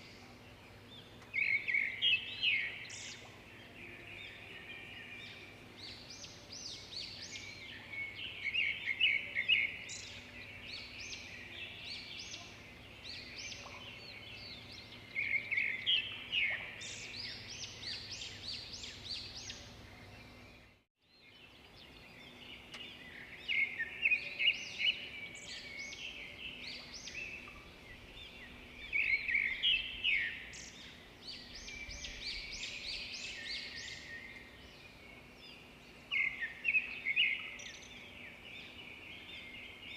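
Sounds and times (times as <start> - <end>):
birds chirping and singing: 0.0 - 39.9
faint background hiss: 0.0 - 39.9.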